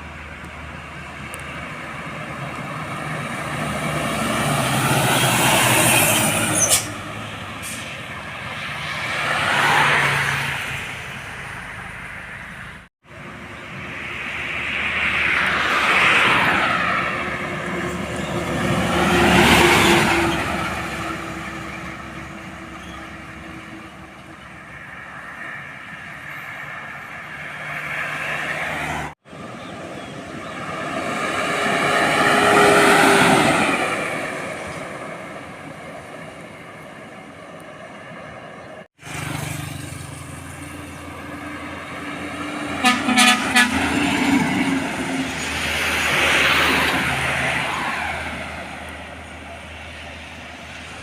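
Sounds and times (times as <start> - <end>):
vehicles passing by: 0.0 - 51.0.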